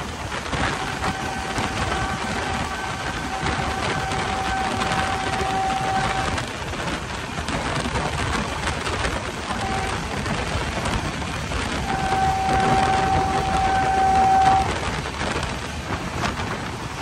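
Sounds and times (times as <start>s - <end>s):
train wheels on rails and wind: 0.0s - 17.0s.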